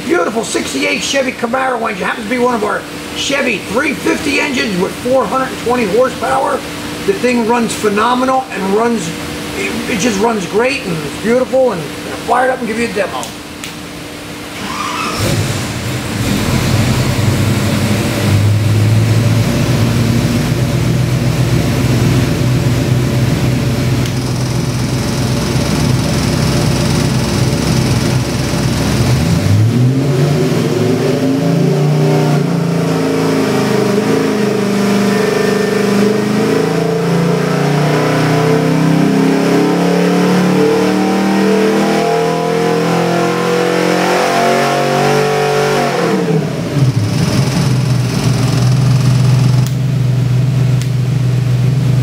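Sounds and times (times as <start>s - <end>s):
engine revving on dynamometer: 0.0s - 13.3s, 14.4s - 52.0s.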